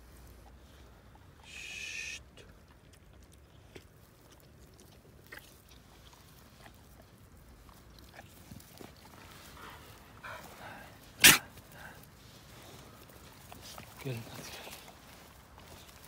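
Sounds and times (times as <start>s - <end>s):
small rustles: 0.0s - 1.6s, 2.3s - 16.0s
faint dog sounds: 0.0s - 16.0s.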